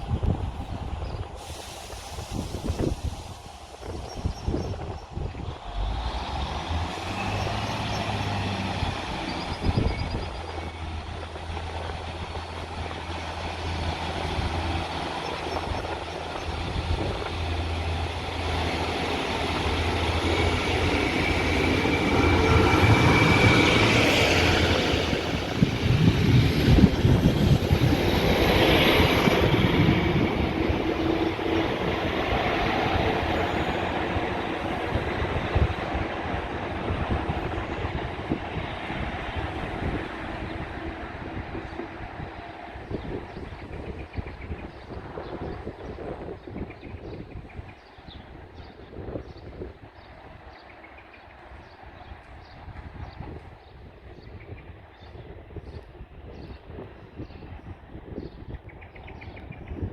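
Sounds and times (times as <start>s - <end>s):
train passing rumble: 0.0s - 59.9s.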